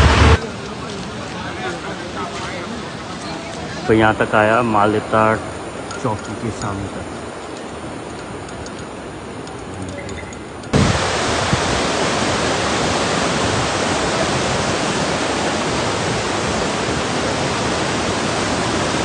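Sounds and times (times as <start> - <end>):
rushing floodwater: 0.0 - 19.0.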